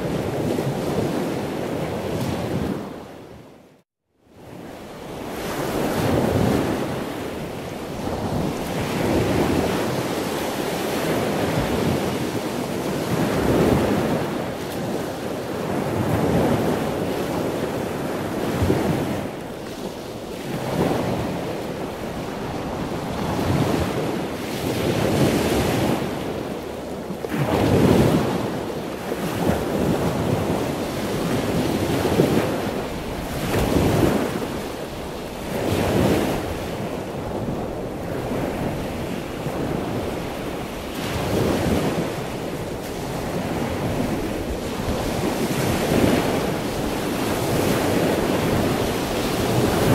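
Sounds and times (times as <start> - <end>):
waves rushing: 0.0 - 3.0, 4.8 - 49.9
wind buffeting microphone: 4.4 - 49.9.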